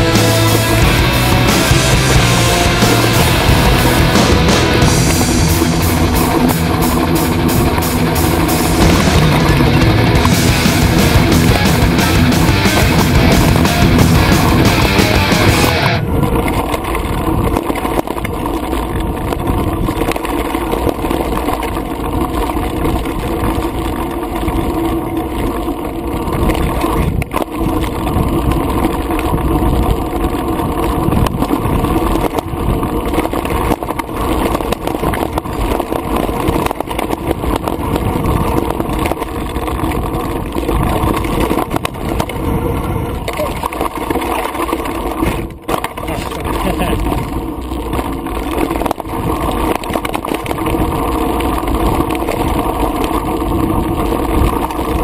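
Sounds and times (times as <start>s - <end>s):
bike rattling and knocking: 0.0s - 55.0s
bike tyres rumbling on dirt: 0.0s - 55.0s.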